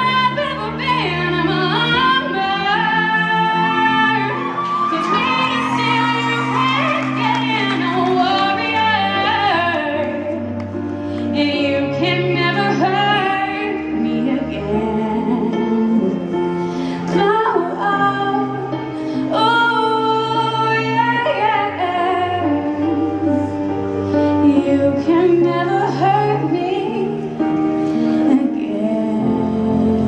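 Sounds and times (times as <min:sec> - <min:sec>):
girl singing a ballad: 0:00.0 - 0:30.0.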